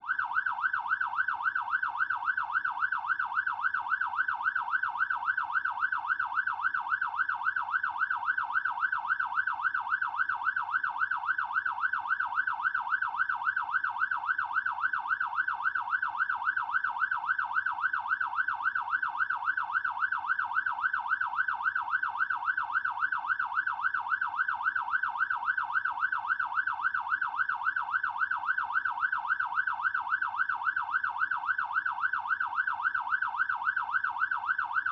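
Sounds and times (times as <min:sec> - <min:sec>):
fire truck siren yelping: 0:00.0 - 0:34.9.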